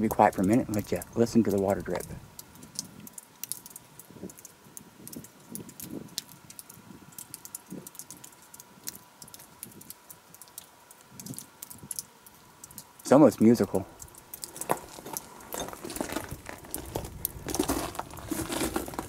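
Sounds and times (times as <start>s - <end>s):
water dripping on rock: 0.0s - 19.0s.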